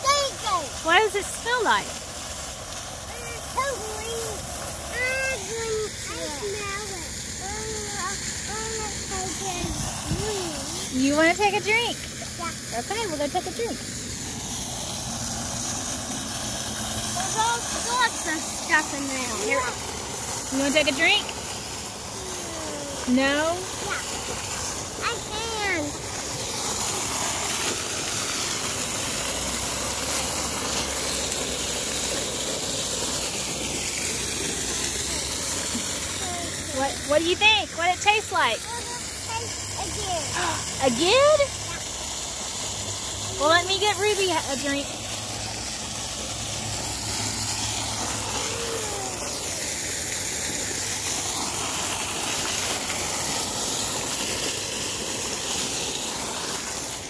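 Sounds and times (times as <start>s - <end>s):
water jet splashing on stone: 0.0s - 57.0s.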